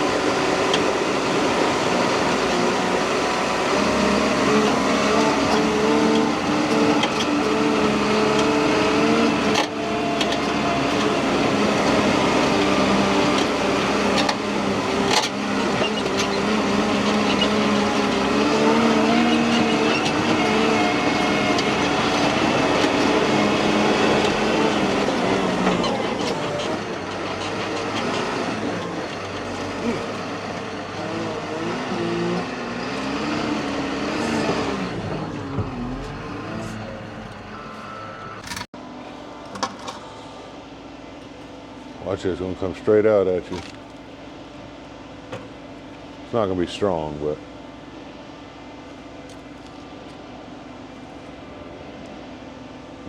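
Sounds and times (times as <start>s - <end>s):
road noise: 0.0s - 53.0s
vehicle droning whine: 0.0s - 53.0s.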